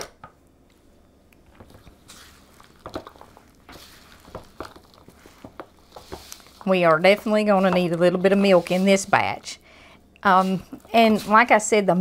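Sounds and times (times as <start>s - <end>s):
utensil stirring mixture in bowl: 1.5s - 9.6s, 10.2s - 12.0s.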